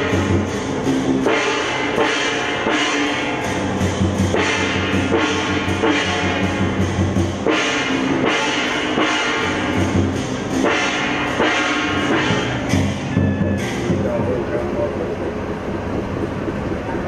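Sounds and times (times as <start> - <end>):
music with drum beat and bass: 0.0 - 14.6.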